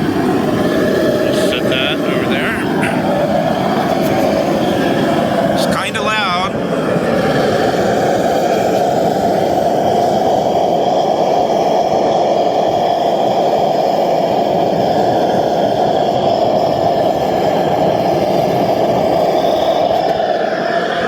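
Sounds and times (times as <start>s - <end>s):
gas forge burner roaring: 0.0s - 21.0s.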